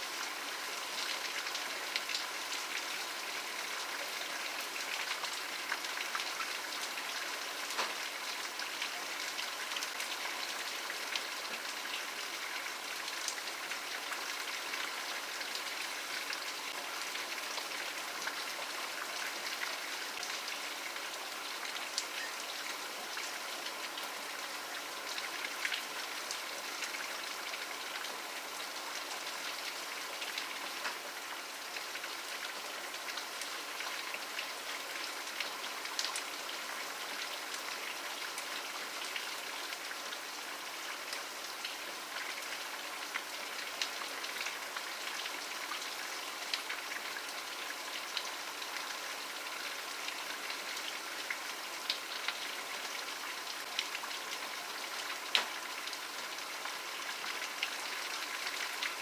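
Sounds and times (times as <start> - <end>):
rain drops ticking: 0.0 - 59.0
steady rain hiss: 0.0 - 59.0.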